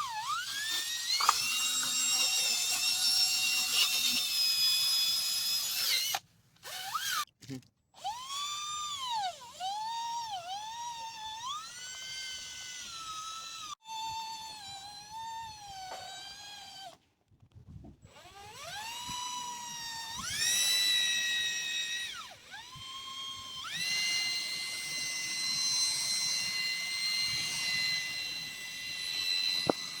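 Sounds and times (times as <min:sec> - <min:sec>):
electric drill motor whining: 0:00.0 - 0:07.3, 0:08.0 - 0:17.0, 0:18.0 - 0:30.0.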